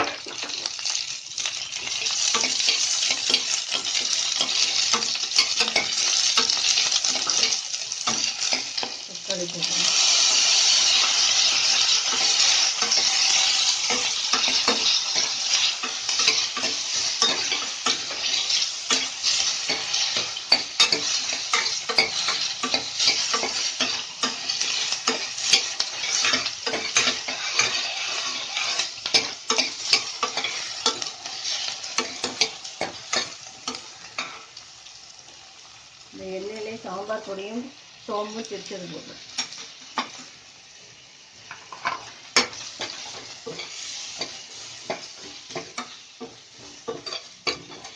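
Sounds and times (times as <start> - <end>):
tomato sizzling in hot oil: 0.0 - 47.9
spatula scraping a pan: 1.8 - 9.0, 9.8 - 34.6, 41.5 - 47.9.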